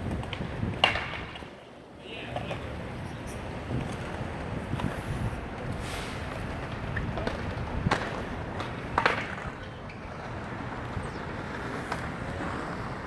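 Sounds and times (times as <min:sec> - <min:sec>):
rush of traffic: 0:00.0 - 0:13.0.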